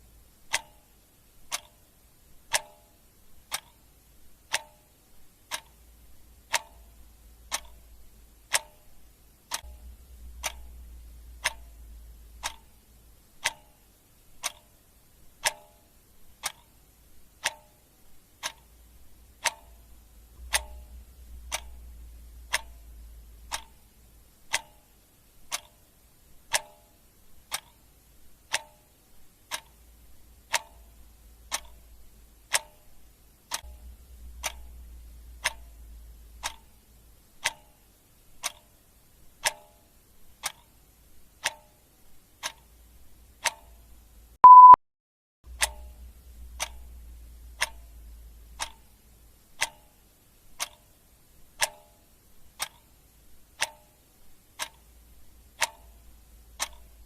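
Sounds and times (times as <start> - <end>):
clock ticking: 0.3 - 44.8, 45.5 - 57.0.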